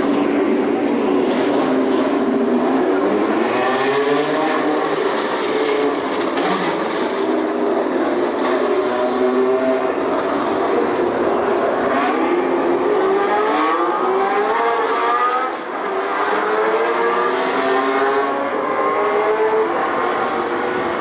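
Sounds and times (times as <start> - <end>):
racing car engines accelerating: 0.0 - 21.0.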